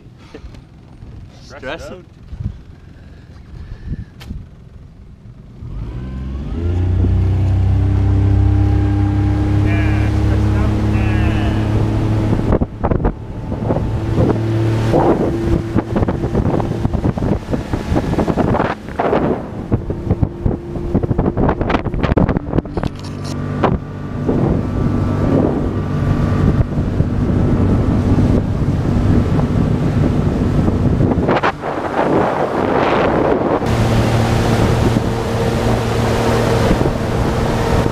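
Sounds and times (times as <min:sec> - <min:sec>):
wind buffeting microphone: 0:00.0 - 0:04.8, 0:06.8 - 0:37.9
outboard motor drone: 0:00.0 - 0:37.9.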